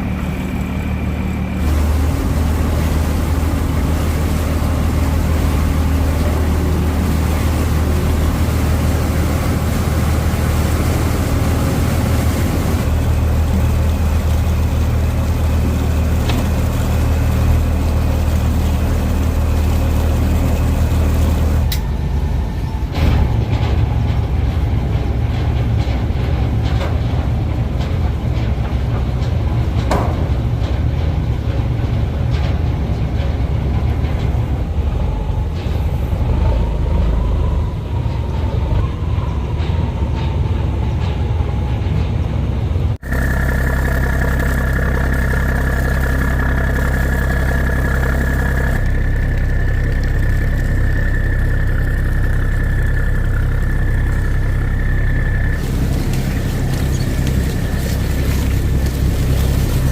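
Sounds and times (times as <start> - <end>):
boat engine running: 0.0 - 40.4, 42.9 - 59.9.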